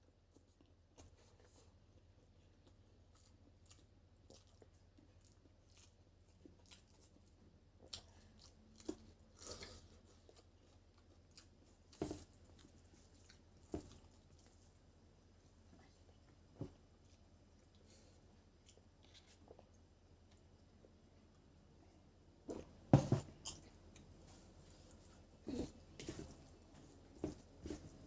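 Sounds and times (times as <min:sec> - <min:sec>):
chewing and eating mouth sounds: 0:00.2 - 0:21.6, 0:22.5 - 0:28.0.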